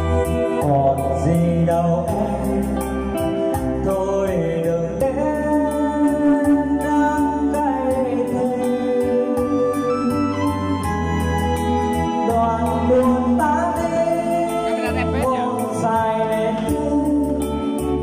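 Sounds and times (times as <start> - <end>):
electronic keyboard backing track: 0.0 - 18.0
man singing karaoke: 0.0 - 18.0.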